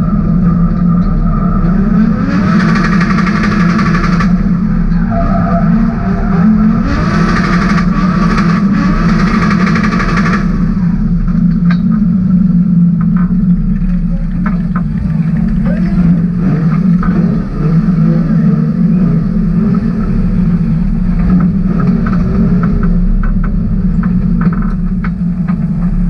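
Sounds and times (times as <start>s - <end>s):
car engine revving hard: 0.0s - 12.9s, 13.8s - 25.0s.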